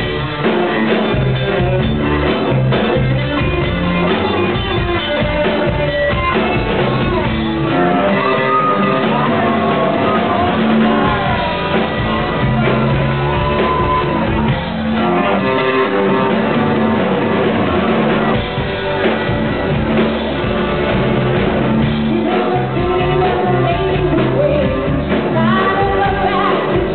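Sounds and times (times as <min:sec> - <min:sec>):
rock band playing: 0:00.0 - 0:26.9.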